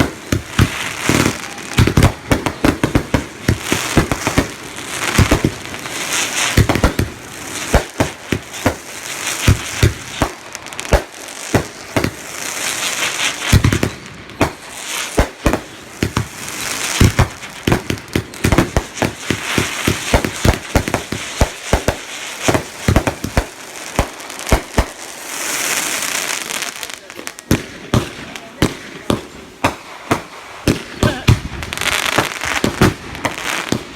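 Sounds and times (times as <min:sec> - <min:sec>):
fireworks bangs: 0:00.0 - 0:33.9
fireworks crackling and hissing: 0:00.0 - 0:33.9.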